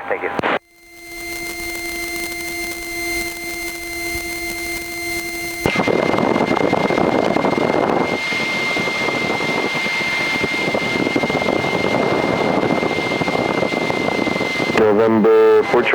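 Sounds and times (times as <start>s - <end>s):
aircraft engine droning: 0.0s - 15.9s.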